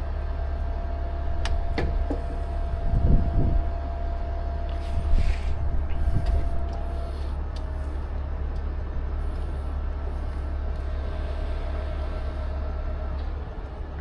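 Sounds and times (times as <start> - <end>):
diesel engine running: 0.0 - 14.0
winch whine: 0.0 - 14.0.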